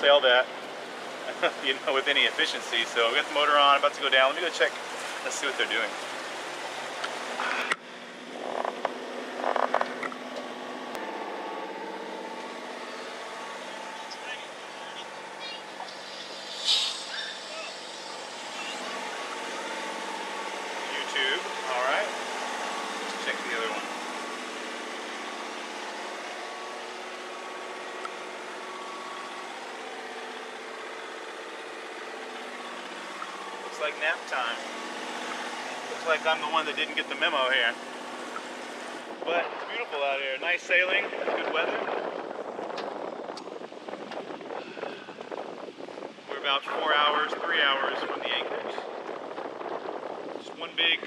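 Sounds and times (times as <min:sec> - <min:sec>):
boat engine drone: 0:00.0 - 0:51.0.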